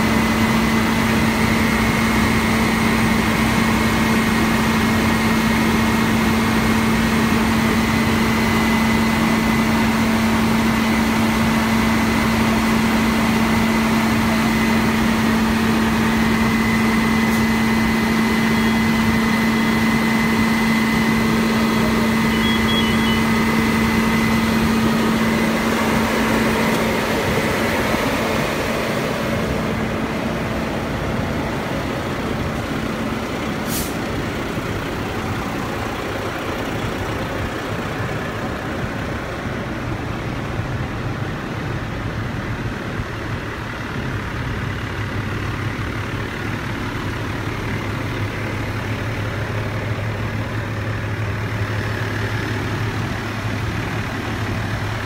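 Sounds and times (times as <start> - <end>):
fire engine pump running: 0.0 - 55.0.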